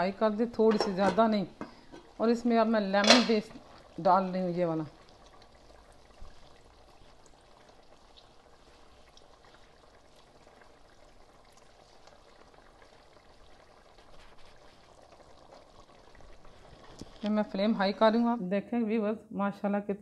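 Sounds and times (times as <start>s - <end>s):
sauce simmering in a pot: 0.0s - 18.3s.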